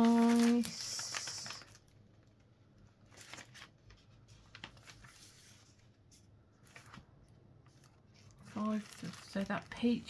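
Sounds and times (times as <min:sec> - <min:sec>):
faint clicks and rustles: 0:00.0 - 0:10.0.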